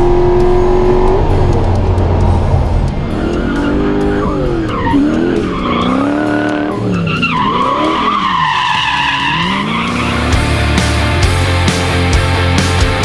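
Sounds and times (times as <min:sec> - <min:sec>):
tires squealing: 0:00.0 - 0:10.6
engine revving: 0:00.0 - 0:13.0.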